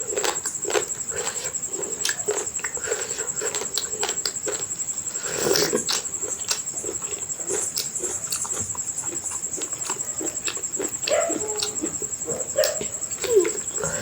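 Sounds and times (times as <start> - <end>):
chewing and lip-smacking: 0.1 - 14.0.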